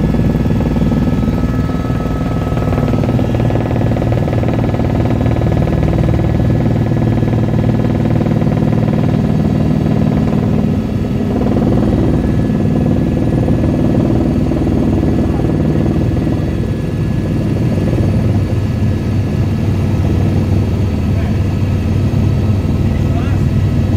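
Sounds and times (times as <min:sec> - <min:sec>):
helicopter engine and rotor drone: 0:00.0 - 0:23.9.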